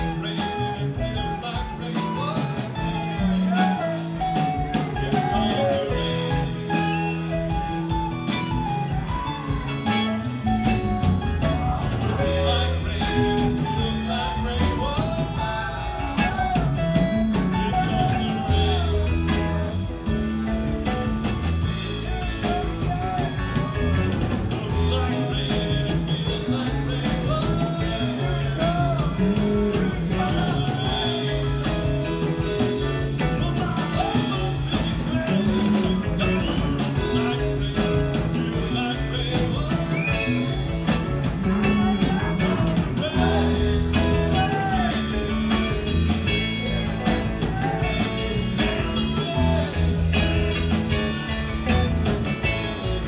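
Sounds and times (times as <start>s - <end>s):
live rock band playing: 0.0s - 53.0s.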